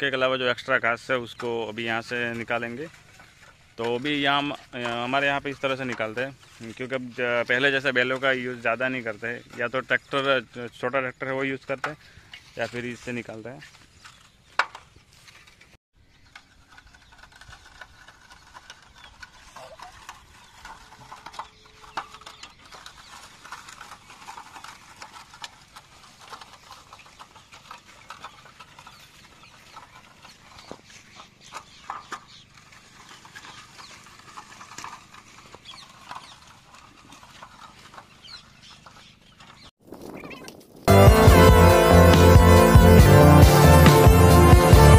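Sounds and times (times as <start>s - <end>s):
hoe blade scraping soil: 0.0s - 44.9s
soil clods crackling: 0.0s - 44.9s.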